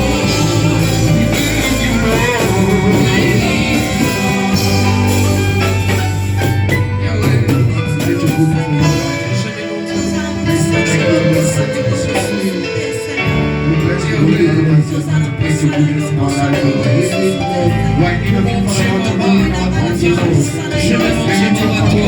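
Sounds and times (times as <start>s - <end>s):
band playing worship music: 0.0s - 22.0s
people singing: 0.0s - 22.0s.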